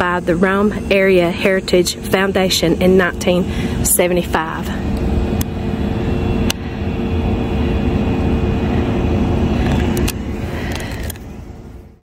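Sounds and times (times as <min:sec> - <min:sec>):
faint constant hum: 0:00.0 - 0:12.0
vehicle engine rumble: 0:00.0 - 0:12.0.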